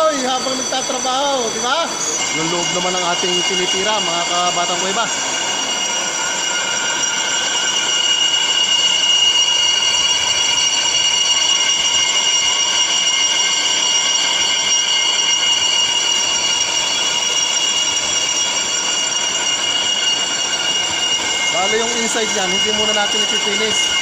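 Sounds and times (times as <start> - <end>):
lathe tool squealing: 0.0 - 24.0.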